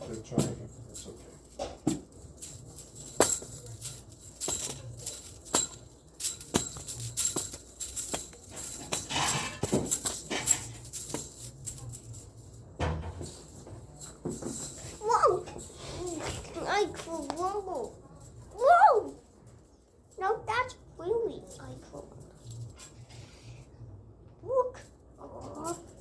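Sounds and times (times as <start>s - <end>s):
clicking and jingling rattles: 0.0s - 23.2s, 25.2s - 26.0s.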